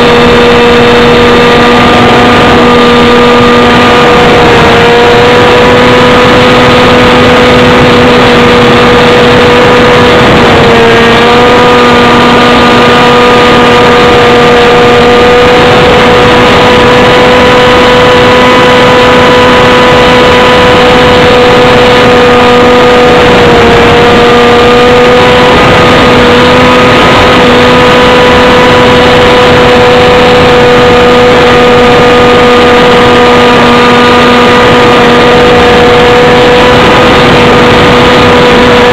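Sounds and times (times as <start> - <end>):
dense rush of noise: 0.0 - 38.9
light aircraft engine droning: 0.0 - 38.9.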